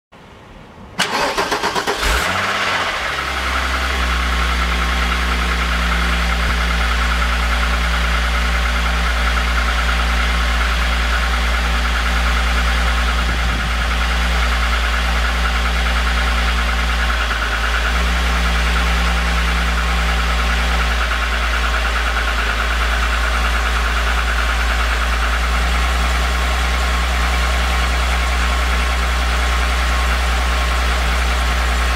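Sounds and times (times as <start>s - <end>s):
car engine starting and idling: 0.2s - 31.9s.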